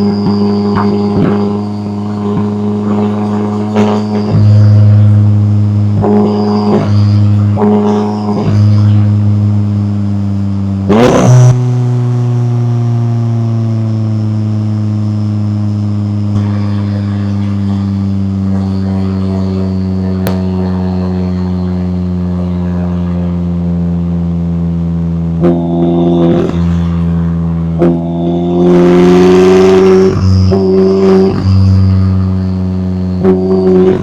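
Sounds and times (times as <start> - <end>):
loud exhaust crack: 0.0 - 34.0
sports car exhaust revving: 0.0 - 34.0.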